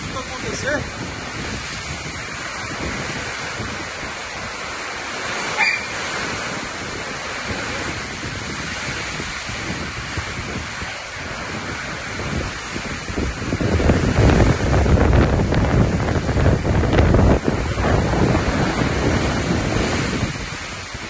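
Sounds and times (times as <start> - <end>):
heavy rain on metal roof: 0.0 - 21.0
strong wind: 0.0 - 21.0.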